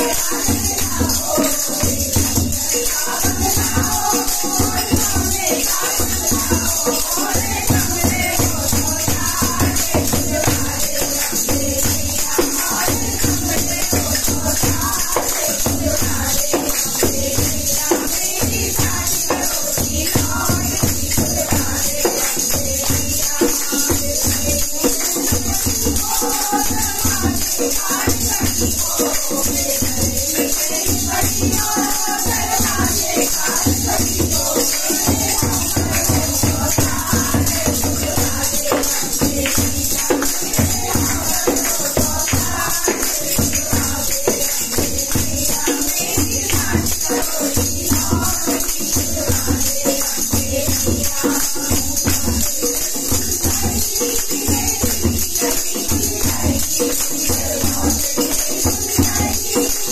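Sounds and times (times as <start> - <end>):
jingling hand percussion: 0.0 - 59.9
women singing together: 0.0 - 59.9.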